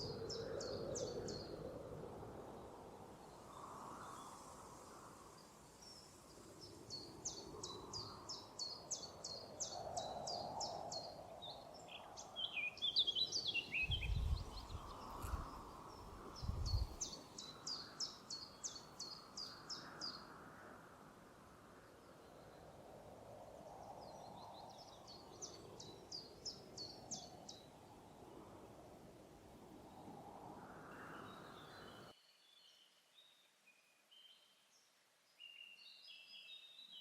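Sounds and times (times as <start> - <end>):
songbird singing: 0.0 - 20.8, 21.8 - 37.0.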